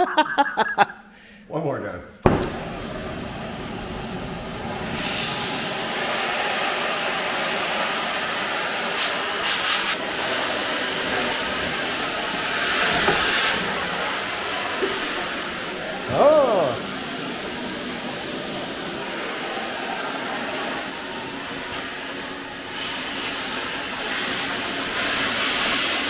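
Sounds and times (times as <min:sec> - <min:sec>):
hissing rush of noise: 0:02.6 - 0:25.4.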